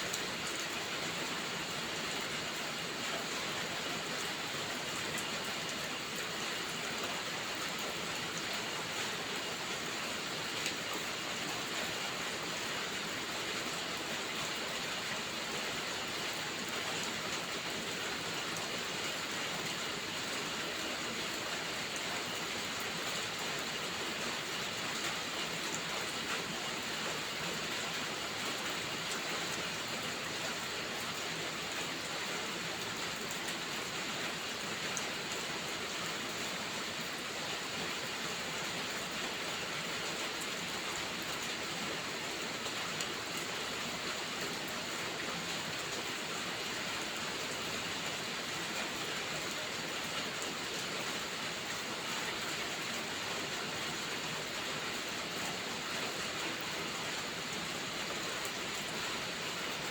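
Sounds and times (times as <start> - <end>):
heavy rainfall: 0.0 - 59.9.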